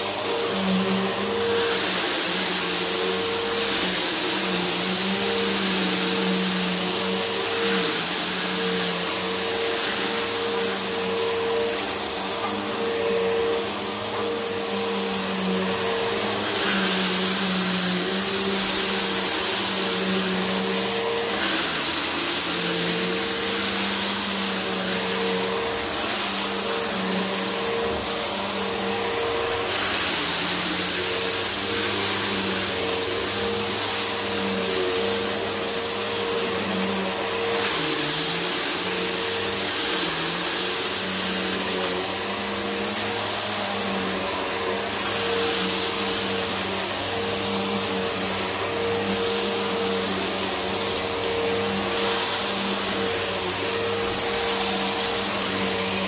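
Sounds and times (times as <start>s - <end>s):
upright vacuum cleaner running: 0.0s - 56.0s
vacuum suction on carpet: 0.0s - 56.0s.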